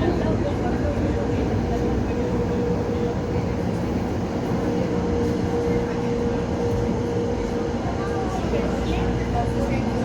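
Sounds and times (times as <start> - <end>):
tram drive whine: 0.0 - 10.0
tram wheels rumbling: 0.0 - 10.0.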